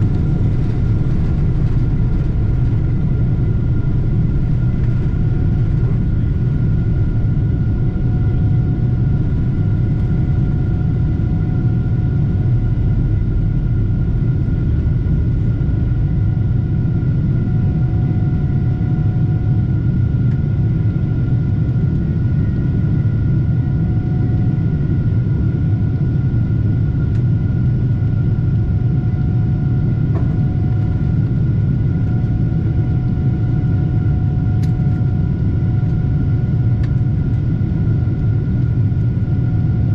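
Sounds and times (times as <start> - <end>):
high engine whine: 0.0 - 39.9
jet engines rumbling: 0.0 - 39.9.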